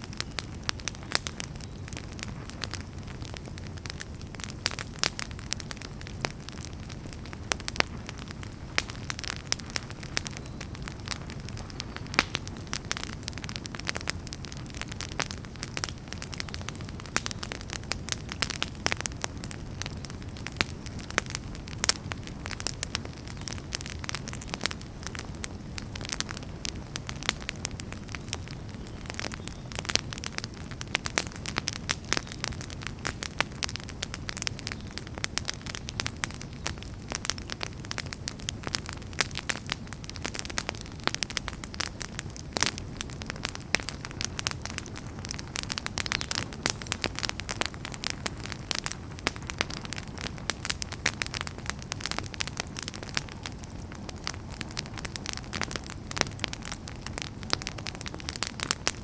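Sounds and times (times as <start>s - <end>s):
firewood crackling and popping: 0.0s - 59.0s
low rumble of flame: 0.0s - 59.0s.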